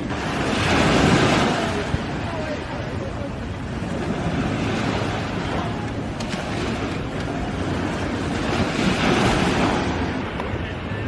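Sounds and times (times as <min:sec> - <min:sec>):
sea surf washing onto beach: 0:00.0 - 0:11.0
wind buffeting microphone: 0:00.0 - 0:11.0.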